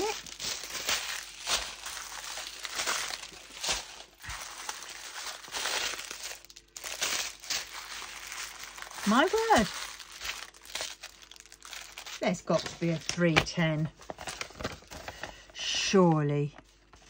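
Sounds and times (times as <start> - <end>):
plastic packets crinkling: 0.0 - 15.6.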